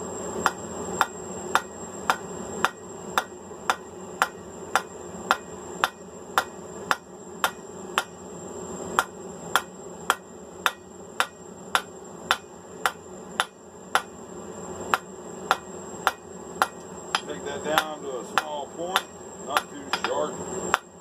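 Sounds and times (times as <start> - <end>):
steady low hum: 0.0 - 21.0
hammer striking steel on anvil: 0.4 - 8.1, 9.0 - 14.1, 14.9 - 20.9.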